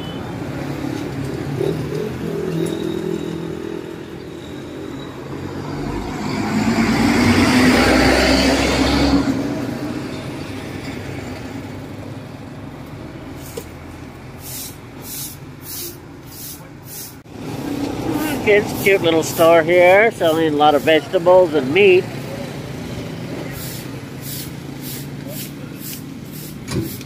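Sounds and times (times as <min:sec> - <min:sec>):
vehicle passing close by: 0:00.0 - 0:15.8, 0:17.2 - 0:27.0
roadside traffic: 0:00.0 - 0:27.0.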